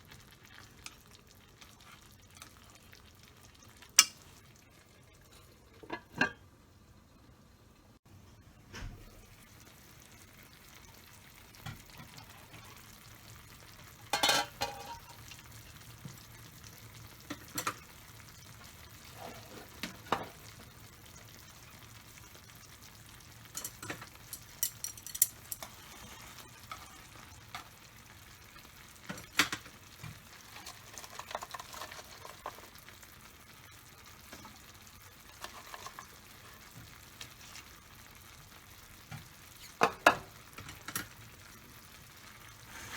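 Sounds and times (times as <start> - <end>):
food sizzling in a frying pan: 0.0 - 8.0, 8.9 - 42.9.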